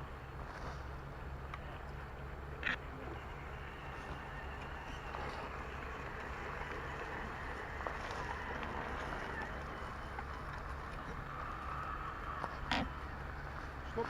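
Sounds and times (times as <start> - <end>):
small electric motor whining: 2.4 - 14.0.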